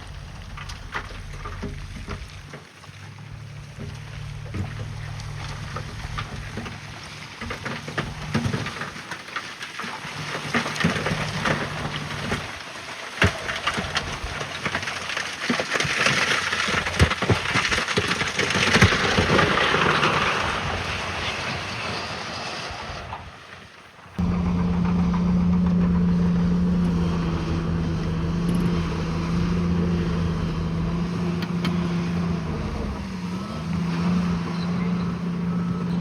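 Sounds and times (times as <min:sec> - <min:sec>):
heavy machinery engine running: 0:00.0 - 0:09.2, 0:10.0 - 0:15.4, 0:16.0 - 0:22.7, 0:24.2 - 0:36.0
rushing noise with knocks and clatters: 0:00.0 - 0:23.2, 0:24.2 - 0:36.0.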